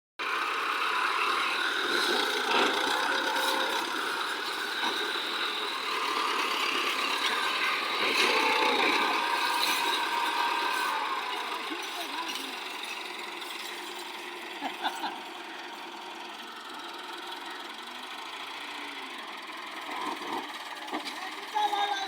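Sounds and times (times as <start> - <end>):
tractor engine rattling: 0.2 - 22.0.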